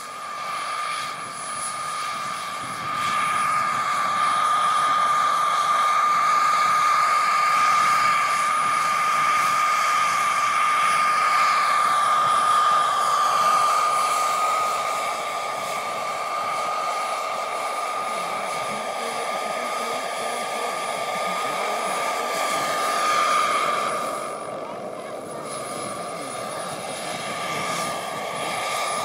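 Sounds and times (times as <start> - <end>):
model helicopter whine: 0.0 - 29.0.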